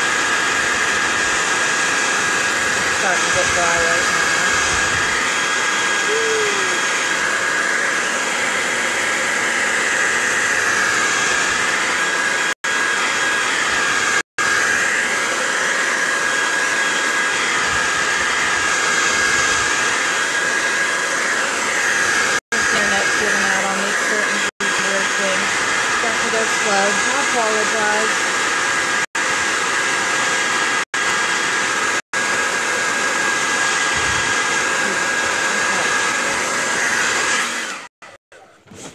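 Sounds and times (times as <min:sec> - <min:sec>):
hair dryer blowing: 0:00.0 - 0:38.2.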